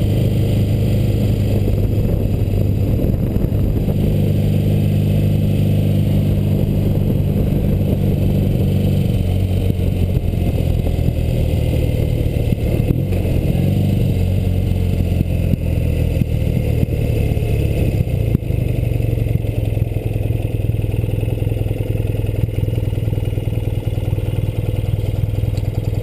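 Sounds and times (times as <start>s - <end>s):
motorcycle engine low rumble: 0.0s - 26.0s.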